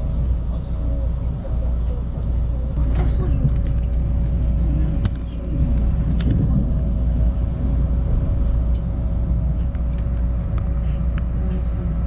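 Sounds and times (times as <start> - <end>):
constant hum: 0.0 - 12.0
train low rumble: 0.0 - 12.0.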